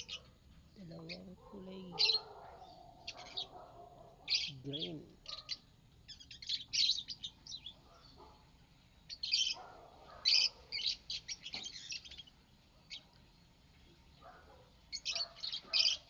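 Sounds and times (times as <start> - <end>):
lovebirds chirping: 0.0 - 16.0.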